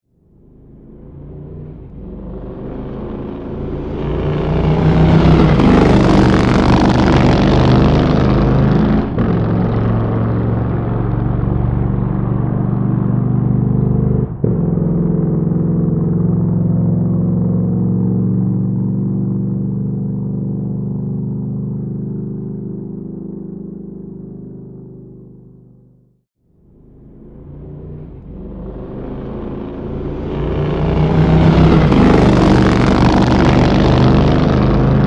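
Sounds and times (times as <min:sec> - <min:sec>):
motorcycle engine running: 0:00.1 - 0:35.0.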